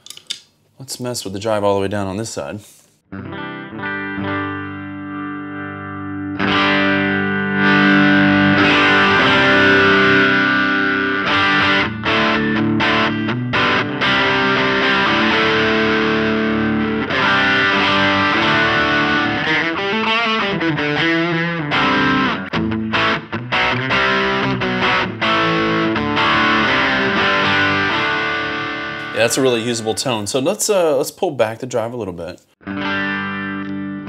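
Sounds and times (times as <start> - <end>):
electric guitar chord ringing: 3.1 - 30.2, 32.6 - 34.0
overdriven electric guitar strumming: 3.1 - 30.2, 32.6 - 34.0.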